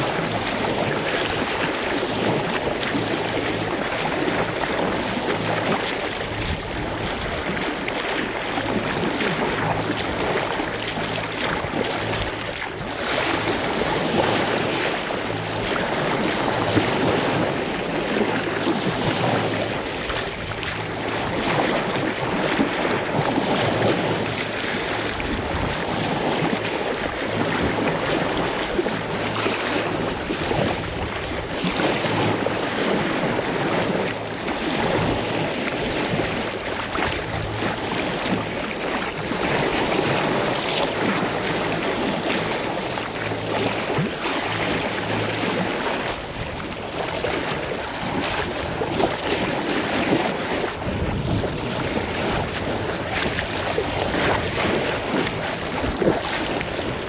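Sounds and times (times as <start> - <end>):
water rushing along a hull: 0.0 - 57.0
wind buffeting microphone: 0.0 - 57.0.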